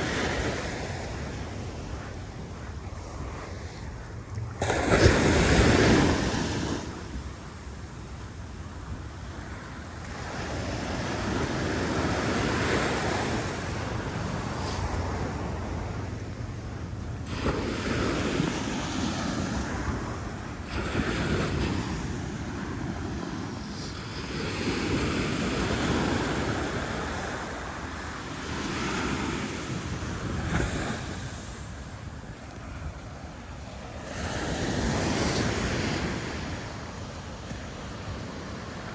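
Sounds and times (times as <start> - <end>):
waves breaking on beach: 0.0 - 38.9
wind rumbling on microphone: 0.0 - 38.9.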